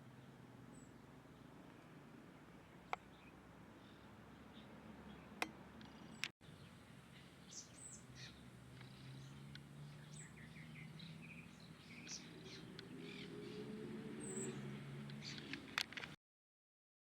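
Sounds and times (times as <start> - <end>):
small birds chirping: 0.0 - 16.2.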